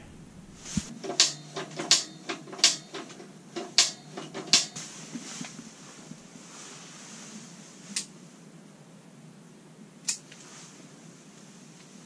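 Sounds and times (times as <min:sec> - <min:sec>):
rustling: 0:00.0 - 0:08.3, 0:10.2 - 0:12.0.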